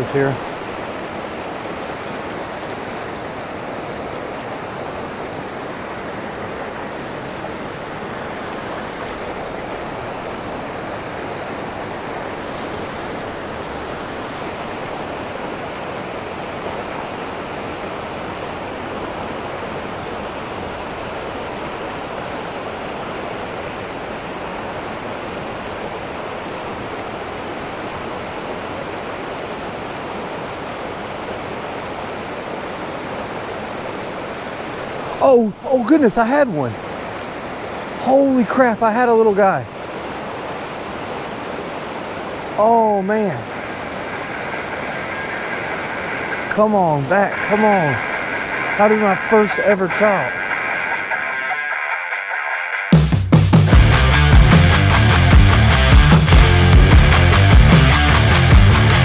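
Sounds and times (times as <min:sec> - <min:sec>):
creek rushing over rocks: 0:00.0 - 0:52.5.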